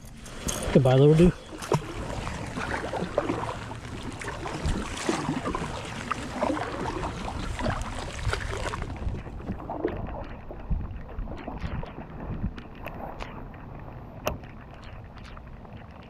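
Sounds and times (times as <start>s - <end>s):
wind buffeting microphone: 0.0s - 15.8s
paddle splashing in water: 0.0s - 16.0s.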